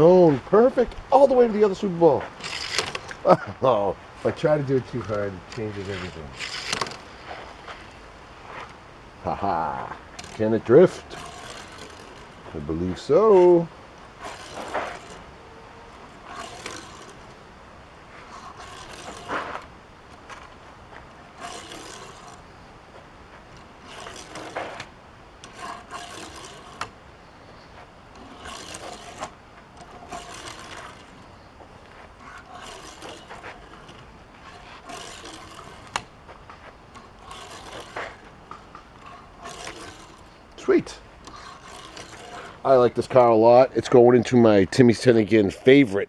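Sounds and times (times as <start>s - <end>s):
toy car rolling and scraping: 0.0s - 45.9s.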